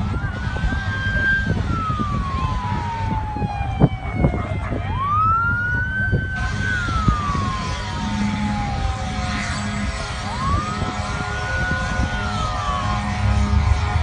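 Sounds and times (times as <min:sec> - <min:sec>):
steady low rumble: 0:00.0 - 0:14.0
wailing siren: 0:00.0 - 0:14.0.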